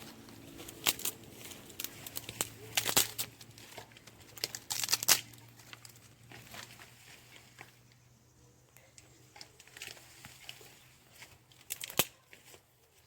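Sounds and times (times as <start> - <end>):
crinkling and rustling by hand: 0.0 - 13.0.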